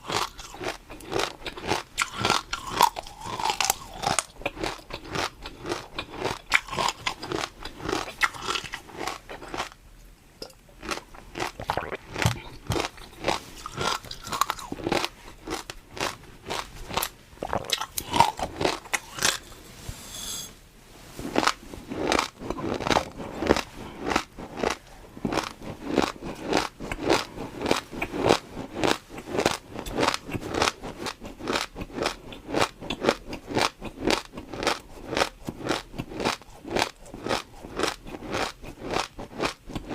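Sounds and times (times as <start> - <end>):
crunching bites and chewing: 0.0 - 9.8, 10.8 - 19.5, 21.3 - 39.9.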